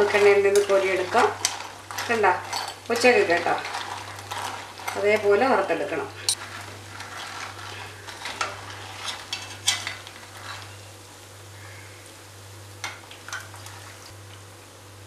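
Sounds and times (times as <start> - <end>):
metal spoons scraping a pan: 0.0 - 11.0, 12.8 - 14.0
food sizzling in hot oil: 0.0 - 15.0.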